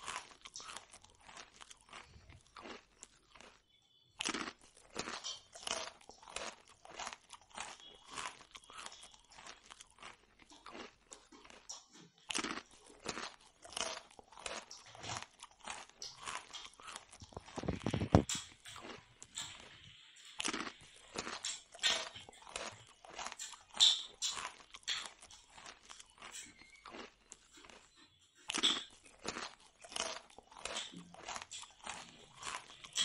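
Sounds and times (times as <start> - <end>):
crunchy food chewing: 0.0 - 33.0.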